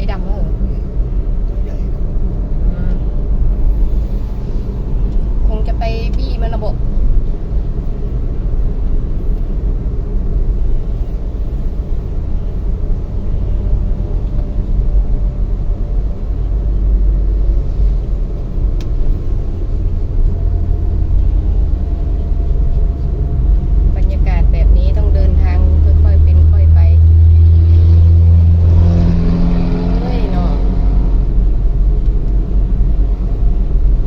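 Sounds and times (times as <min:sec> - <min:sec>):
motor vehicle rumble: 0:00.0 - 0:34.0.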